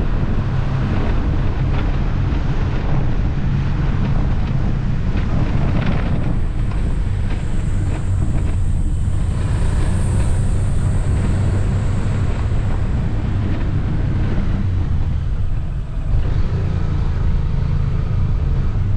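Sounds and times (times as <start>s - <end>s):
motorcycle engine running: 0.0s - 18.9s
wind buffeting microphone: 0.0s - 18.9s.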